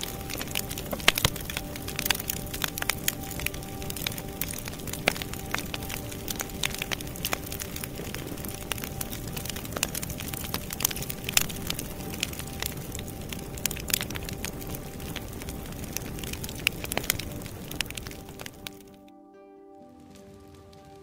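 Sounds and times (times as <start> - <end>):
steady hiss: 0.0 - 19.0
wood fire crackling and popping: 0.0 - 19.2, 19.9 - 21.0.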